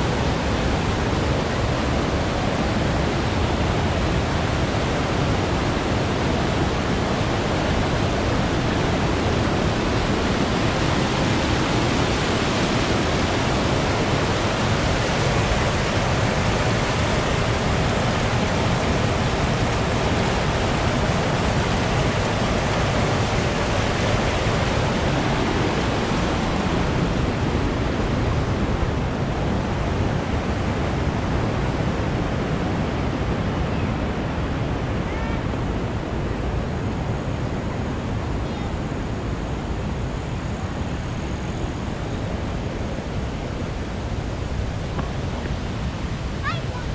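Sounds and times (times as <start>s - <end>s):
rushing white water: 0.0s - 46.9s.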